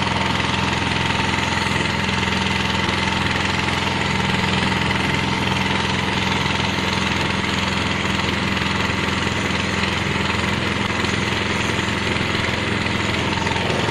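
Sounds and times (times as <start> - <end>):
plastering machine droning: 0.0 - 13.9.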